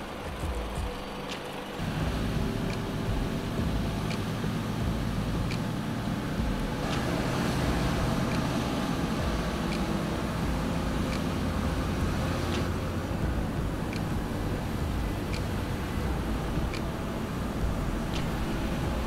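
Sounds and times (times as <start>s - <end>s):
diesel truck engine driving: 0.0s - 19.0s
faint ticking: 0.0s - 19.0s.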